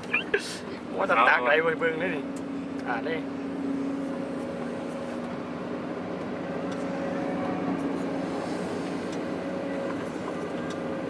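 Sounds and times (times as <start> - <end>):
heavy machinery diesel engine droning: 0.0 - 11.0.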